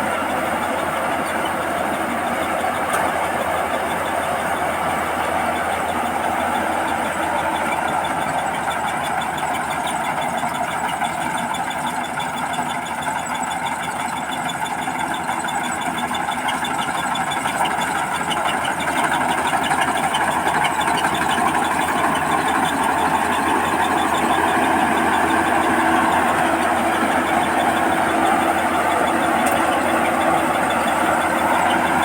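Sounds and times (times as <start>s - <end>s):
combine harvester running: 0.0s - 32.0s
fast regular ticking: 3.6s - 32.0s.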